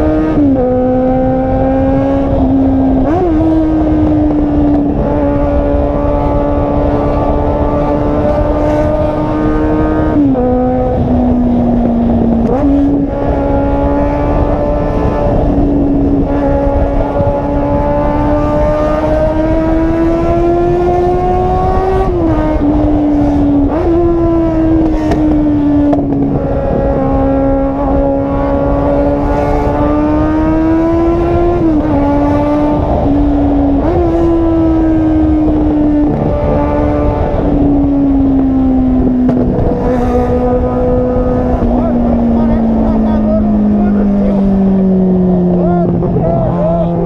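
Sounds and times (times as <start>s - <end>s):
car engine and exhaust droning: 0.0s - 47.0s.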